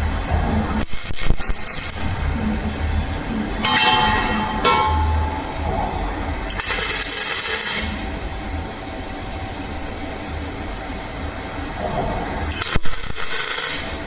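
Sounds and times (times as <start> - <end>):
low hum: 0.0 - 14.0
welder arc crackling and hissing: 0.0 - 14.0.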